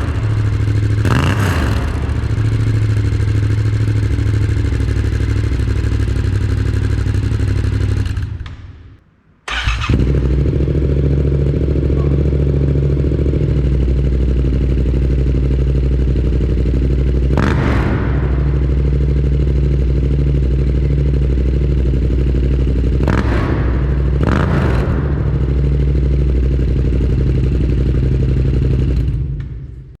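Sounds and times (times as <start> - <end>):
motorcycle engine idling: 0.0 - 8.9, 9.5 - 29.9
engine throttle blips: 0.0 - 29.9
motorcycle engine starting: 0.0 - 30.0.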